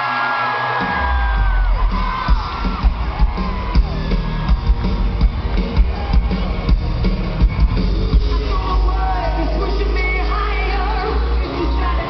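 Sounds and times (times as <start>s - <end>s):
live pop-rock band music: 0.0s - 12.0s.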